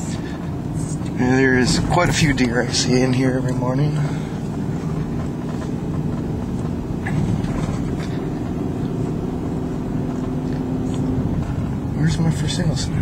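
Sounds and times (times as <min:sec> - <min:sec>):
road and engine noise: 0:00.0 - 0:13.0.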